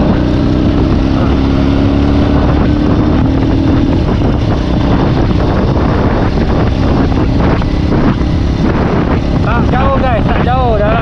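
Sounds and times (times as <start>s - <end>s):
scooter engine running: 0.0s - 11.0s
wind rushing over microphone: 0.0s - 11.0s.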